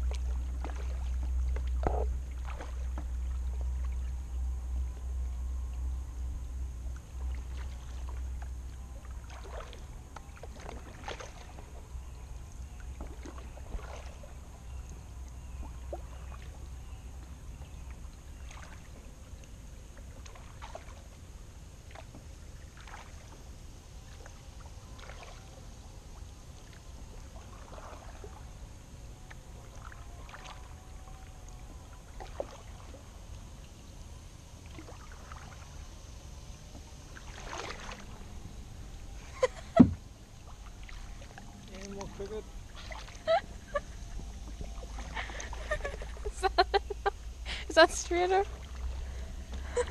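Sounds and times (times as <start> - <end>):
paddle splashing water: 0.0 - 4.3, 6.8 - 49.9.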